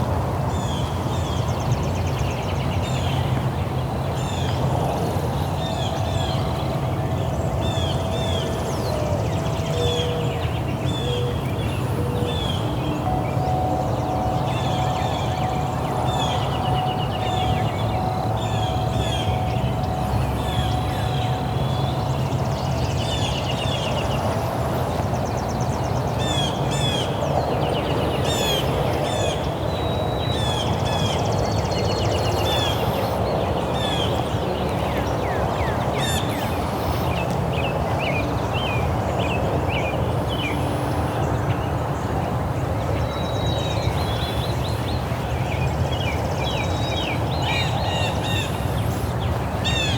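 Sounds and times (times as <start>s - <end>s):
birds chirping: 0.8s - 49.9s.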